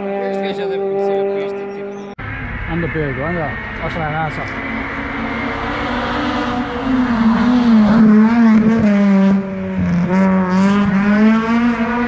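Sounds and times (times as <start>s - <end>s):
race car engine driving past: 0.0s - 12.0s.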